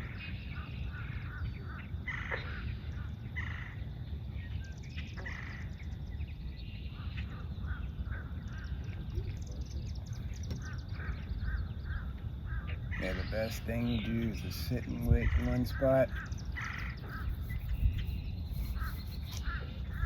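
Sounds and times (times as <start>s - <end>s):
marsh birds calling: 0.0s - 20.0s.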